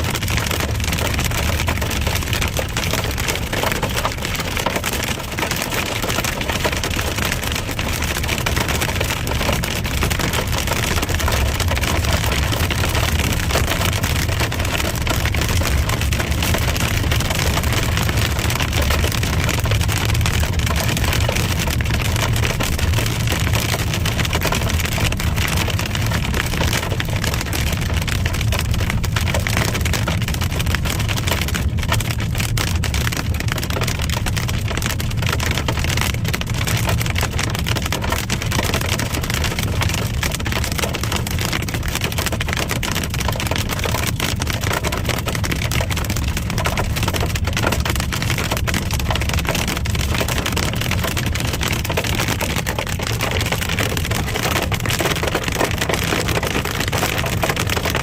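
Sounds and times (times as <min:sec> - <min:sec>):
heavy rain pelting a car: 0:00.0 - 0:58.0
road and engine rumble: 0:00.0 - 0:58.0.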